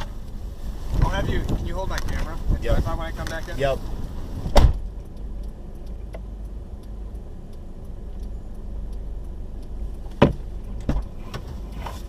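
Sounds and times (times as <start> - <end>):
hazard light flasher ticking: 0.0 - 11.8
car cabin low rumble: 0.0 - 12.0.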